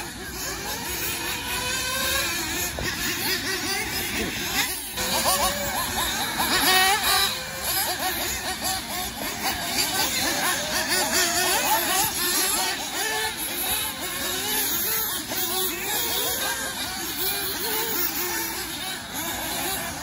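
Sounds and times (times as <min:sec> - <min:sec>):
small engines revving: 0:00.0 - 0:20.0.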